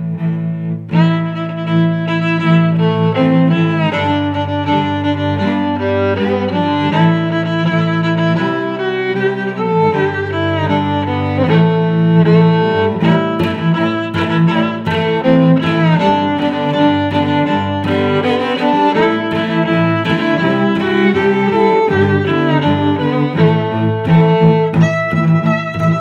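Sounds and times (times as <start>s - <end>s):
bowed strings music: 0.0s - 26.0s.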